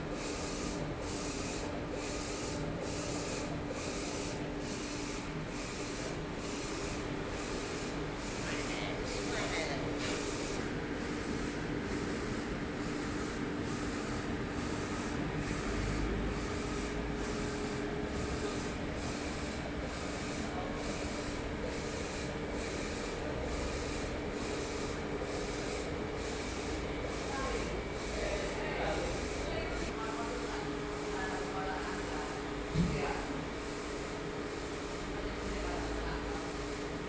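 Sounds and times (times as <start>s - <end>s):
steady motor hum: 0.0s - 37.0s.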